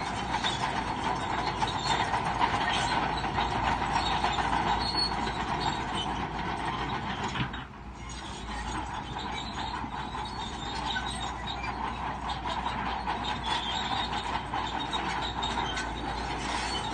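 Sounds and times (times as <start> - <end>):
steel tracks squealing and clanking: 0.0 - 16.9.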